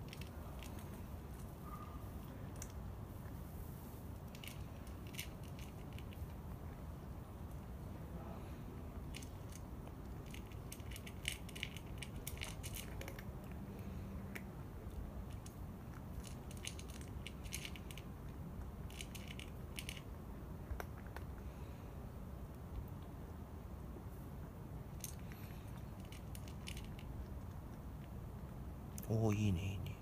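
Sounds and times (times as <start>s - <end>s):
cat chewing food: 0.0s - 29.0s
low background hum: 0.0s - 30.0s.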